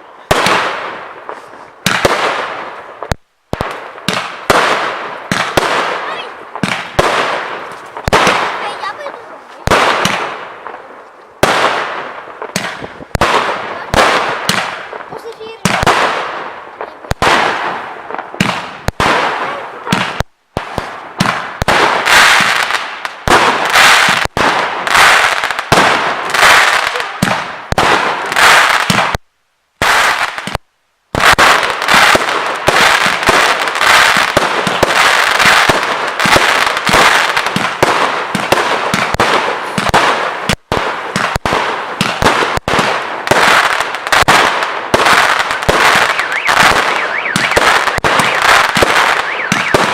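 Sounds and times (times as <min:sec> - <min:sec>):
fireworks launches and bursts: 0:00.0 - 0:49.9.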